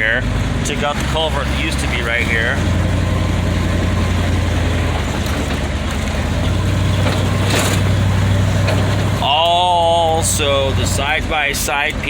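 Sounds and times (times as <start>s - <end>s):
tyres rumbling on dirt road: 0.0s - 12.0s
vehicle engine humming: 0.0s - 12.0s.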